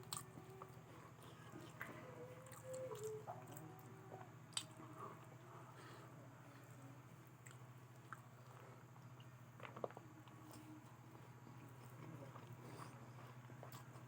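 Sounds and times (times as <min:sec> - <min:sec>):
chewing fried potato: 0:00.0 - 0:14.0
steady low hum: 0:00.0 - 0:14.0.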